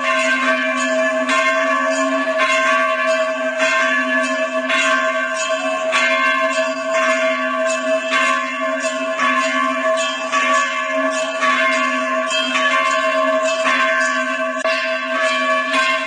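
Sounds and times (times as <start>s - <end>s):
bell ringing: 0.0s - 16.0s.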